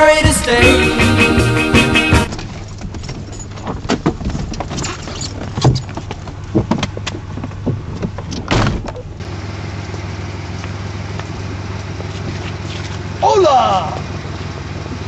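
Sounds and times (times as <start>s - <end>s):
car running with low hum: 0.0s - 15.0s.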